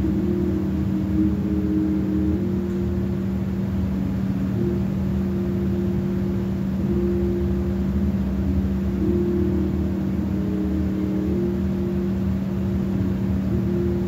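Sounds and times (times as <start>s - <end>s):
higher tone: 0.0s - 14.0s
steady low hum: 0.0s - 14.0s.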